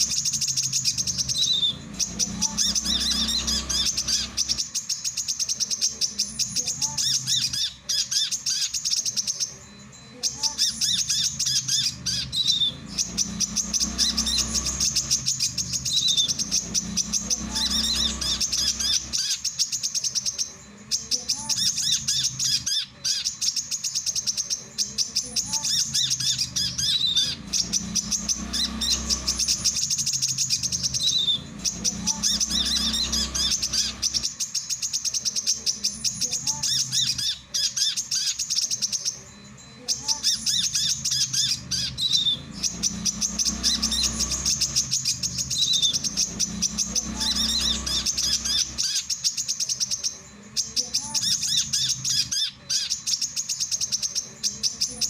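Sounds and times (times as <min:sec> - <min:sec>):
sunbird twittering song: 0:00.0 - 0:55.0.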